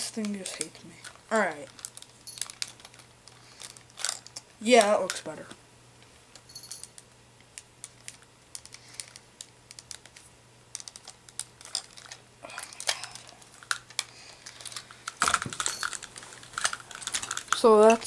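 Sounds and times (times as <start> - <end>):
plastic toy parts clicking and rattling: 0.0 - 5.4, 6.7 - 18.0.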